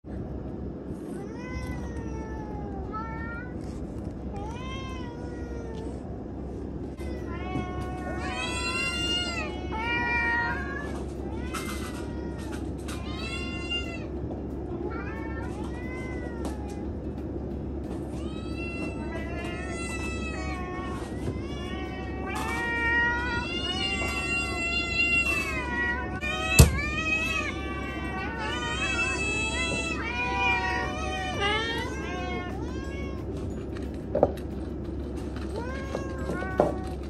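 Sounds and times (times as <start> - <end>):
steady low hum: 0.1 - 37.0
cats meowing: 1.0 - 34.0, 34.7 - 37.0.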